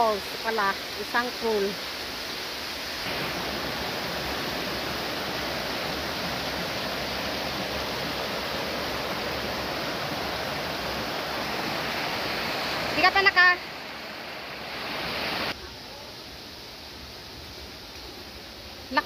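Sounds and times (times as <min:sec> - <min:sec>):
stream water rushing over rocks: 0:00.0 - 0:18.9.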